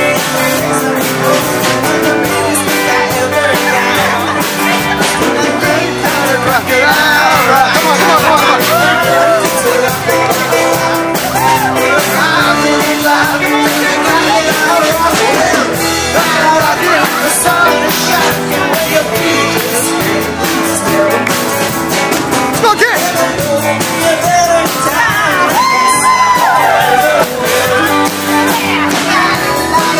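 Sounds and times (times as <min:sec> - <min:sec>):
drums: 0:00.0 - 0:29.9
guitar: 0:00.0 - 0:29.9
person singing: 0:00.0 - 0:29.9.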